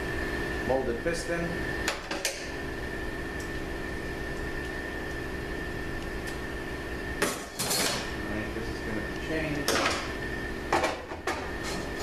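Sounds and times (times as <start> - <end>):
high steady whine: 0.0 - 12.0
workshop machinery hum: 0.0 - 12.0.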